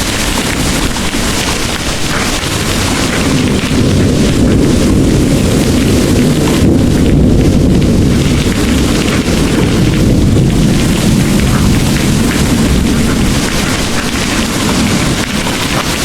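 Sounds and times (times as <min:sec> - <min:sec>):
heavy rain pouring: 0:00.0 - 0:16.0
low rumble of thunder: 0:00.0 - 0:16.0.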